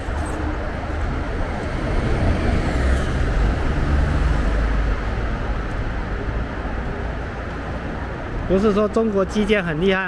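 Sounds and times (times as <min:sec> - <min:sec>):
rumble of passing traffic: 0:00.0 - 0:10.0.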